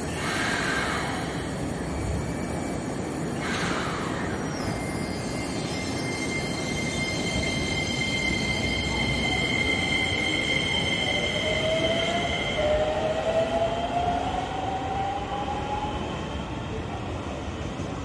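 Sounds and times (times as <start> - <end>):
steady high whines: 0.0 - 16.3
train wheels rumbling on rails: 0.0 - 18.0.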